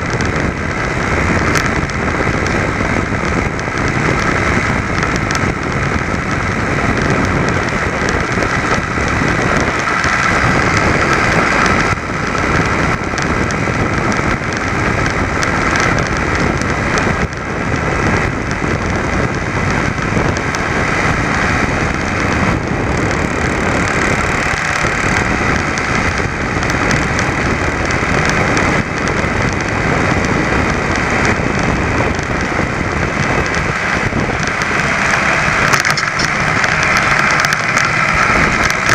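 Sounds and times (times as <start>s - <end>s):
two-stroke moped engine running: 0.0s - 38.9s
wind on microphone: 0.0s - 38.9s.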